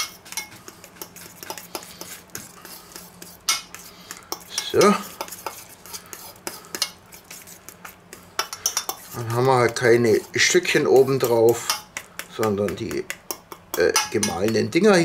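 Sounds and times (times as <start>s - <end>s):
cutlery scraping metal bowl: 0.0s - 14.7s.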